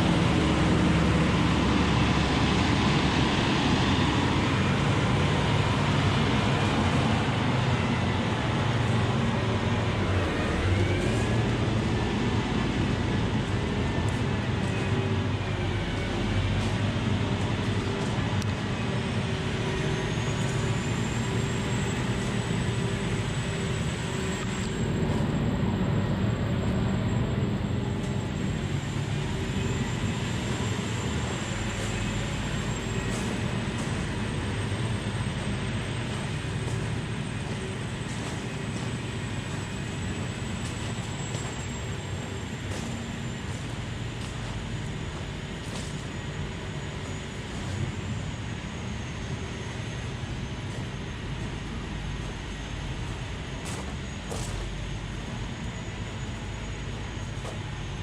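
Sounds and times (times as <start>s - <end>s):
engine rumbling: 0.0s - 58.0s
faint high whine: 0.0s - 58.0s.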